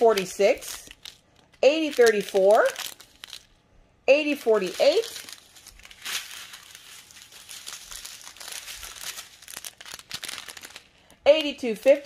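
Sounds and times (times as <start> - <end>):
plastic bags crinkling: 0.0 - 3.6, 4.4 - 11.5.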